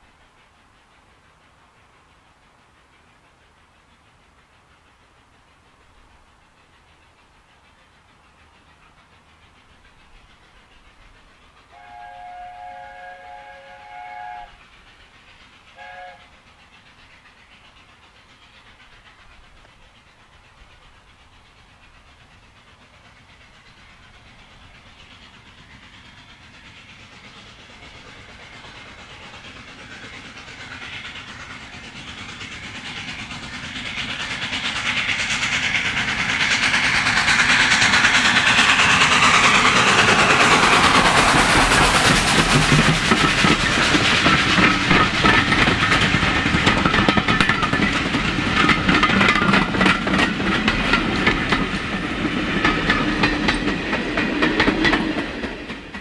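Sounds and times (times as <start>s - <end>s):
steam train passing: 0.0s - 56.0s.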